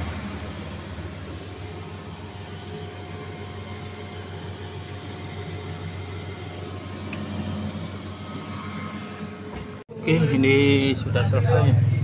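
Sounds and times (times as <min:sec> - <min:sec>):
fridge compressor humming: 0:00.0 - 0:12.0.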